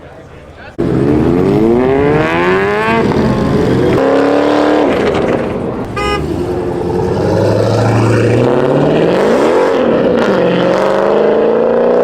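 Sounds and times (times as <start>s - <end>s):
car engine revving: 0.8s - 11.9s.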